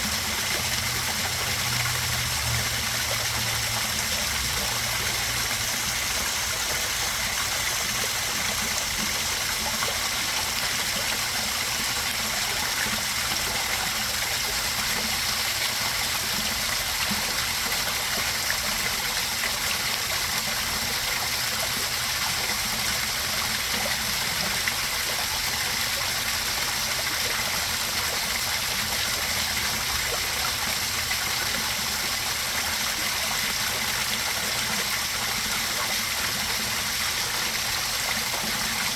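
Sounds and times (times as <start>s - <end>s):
waterfall splashing into pond: 0.0s - 38.9s.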